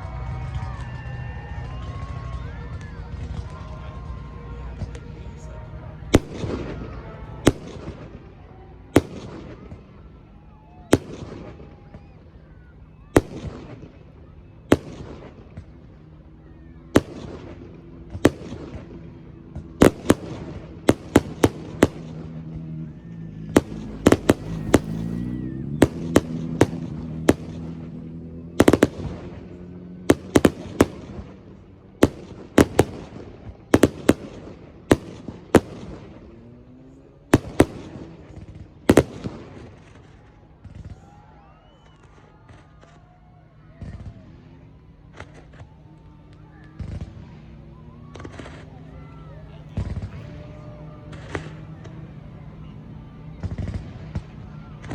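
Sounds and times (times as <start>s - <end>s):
fireworks bursting with echoing bangs: 1.6s - 43.0s, 43.8s - 54.9s.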